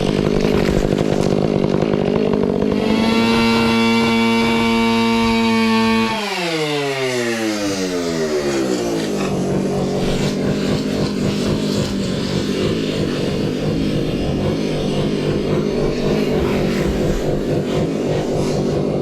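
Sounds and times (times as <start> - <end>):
chainsaw engine slowing to idle: 0.0 - 19.0.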